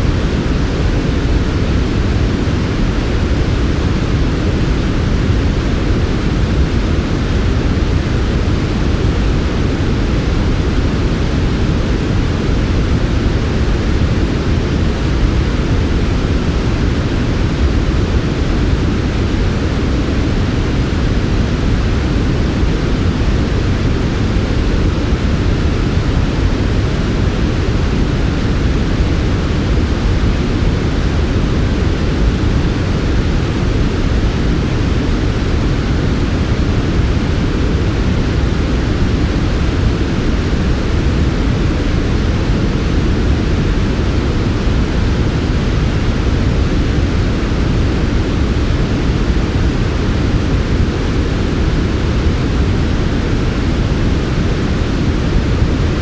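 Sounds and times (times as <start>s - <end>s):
steady low synthetic noise: 0.0s - 56.0s.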